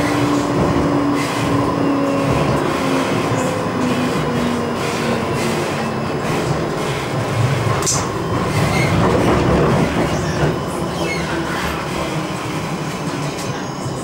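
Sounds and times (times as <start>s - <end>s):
tram wheels rumbling on rail: 0.0s - 14.0s.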